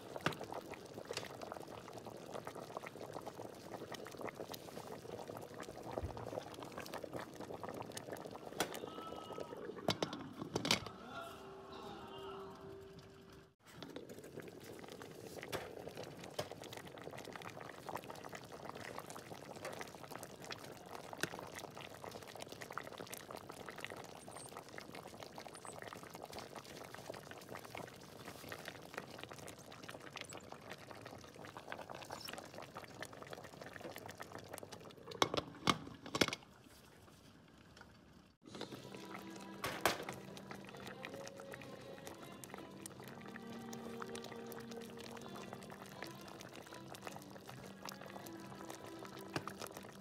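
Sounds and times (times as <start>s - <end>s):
stew bubbling with pops: 0.0s - 10.9s, 13.5s - 50.0s.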